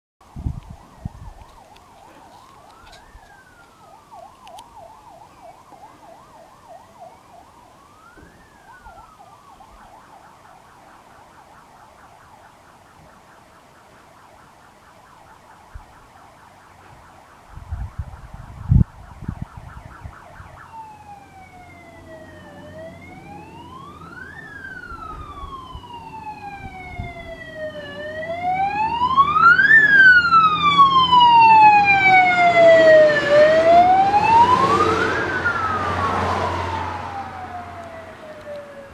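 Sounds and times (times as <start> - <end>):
fire engine siren: 0.2 - 38.9
truck engine rumble: 0.3 - 38.9.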